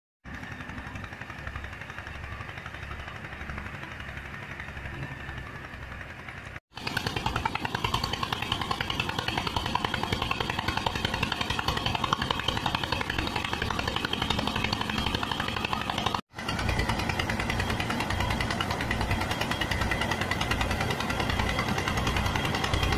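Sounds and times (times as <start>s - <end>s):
tractor diesel engine: 0.2s - 22.9s
thresher drum spinning: 0.3s - 22.9s.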